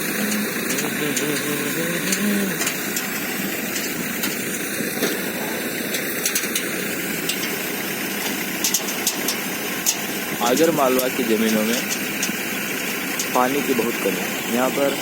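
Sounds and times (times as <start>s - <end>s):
threshing machine running: 0.0s - 15.0s
tractor engine running: 0.0s - 15.0s.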